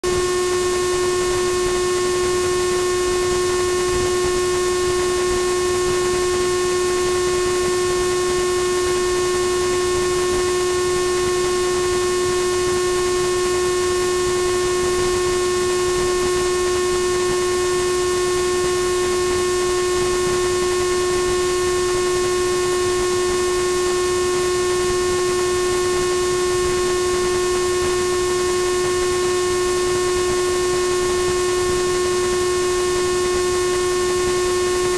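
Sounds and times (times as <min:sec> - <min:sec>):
steady electrical buzz: 0:00.0 - 0:34.9.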